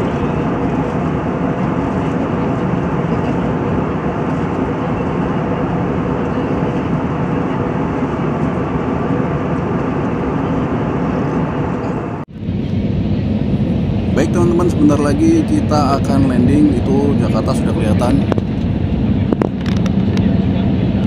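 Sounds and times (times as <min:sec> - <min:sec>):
jet engine and rushing air: 0:00.0 - 0:21.0.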